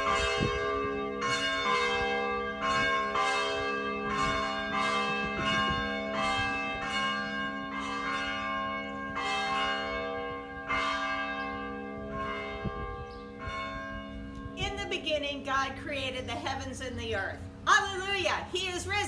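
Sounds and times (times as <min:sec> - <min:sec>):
church bell ringing: 0:00.0 - 0:19.0.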